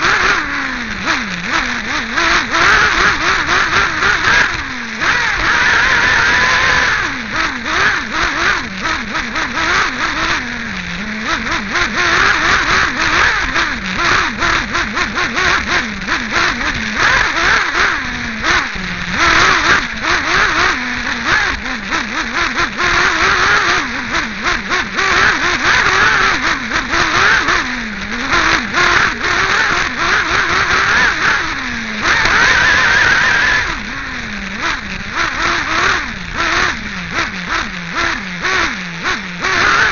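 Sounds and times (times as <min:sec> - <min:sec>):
nitro model engine revving: 0:00.0 - 0:39.9.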